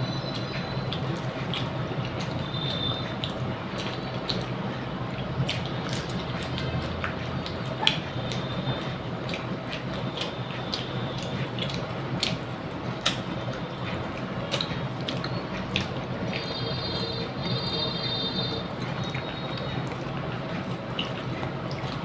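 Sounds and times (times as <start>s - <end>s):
wet chewing and lip-smacking: 0.0s - 22.0s.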